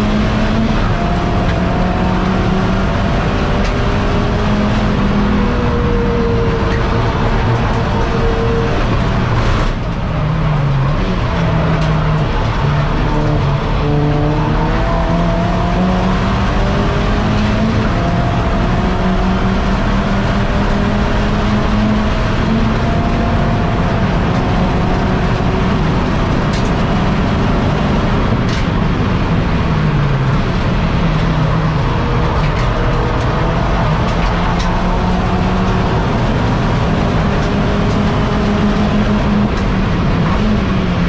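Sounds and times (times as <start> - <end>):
race car engine under load: 0.0 - 41.0.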